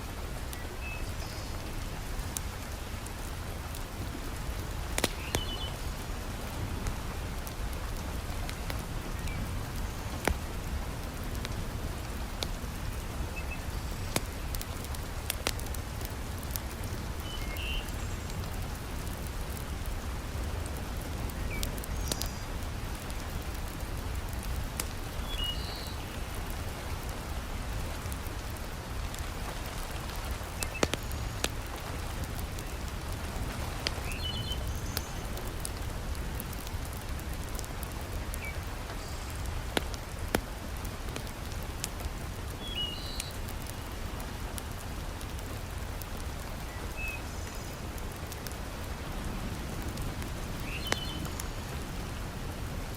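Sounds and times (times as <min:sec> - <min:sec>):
heavy rain falling: 0:00.0 - 0:52.9
wood fire crackling: 0:00.0 - 0:52.9.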